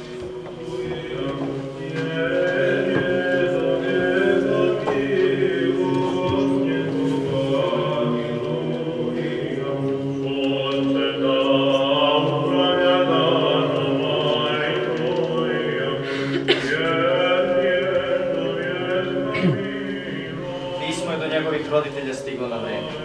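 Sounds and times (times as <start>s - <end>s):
men chanting: 0.3s - 23.0s.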